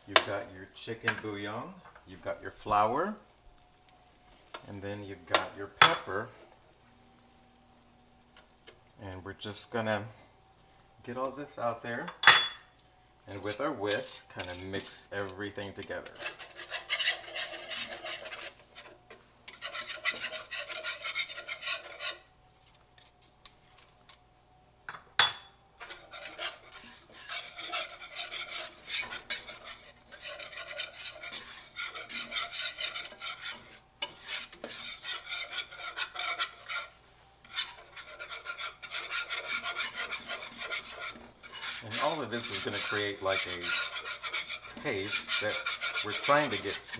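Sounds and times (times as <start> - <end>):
whisk scraping a frying pan: 0.0 - 6.5, 13.2 - 24.0, 25.8 - 46.9.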